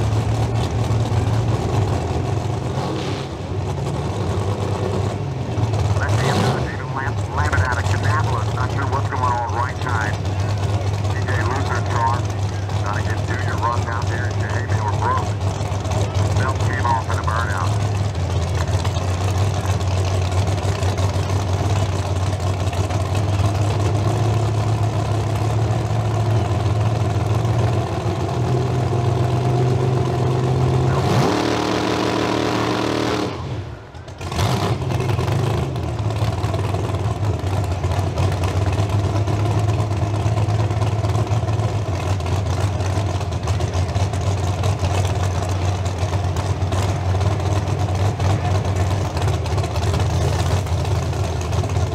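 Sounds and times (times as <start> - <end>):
race car engines idling loudly: 0.0 - 51.9.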